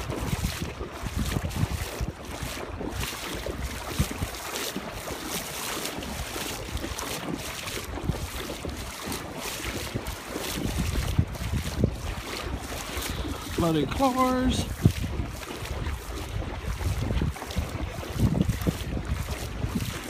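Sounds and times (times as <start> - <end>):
water sloshing and splashing: 0.0 - 20.0
wind rumbling on microphone: 0.0 - 20.0.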